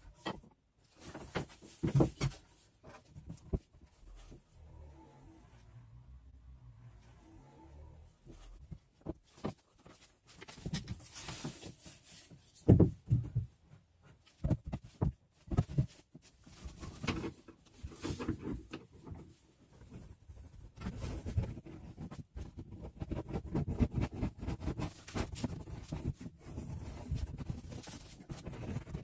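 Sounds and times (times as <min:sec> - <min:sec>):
rustling scrapes: 0:00.8 - 0:04.7, 0:08.0 - 0:12.7, 0:14.1 - 0:29.0.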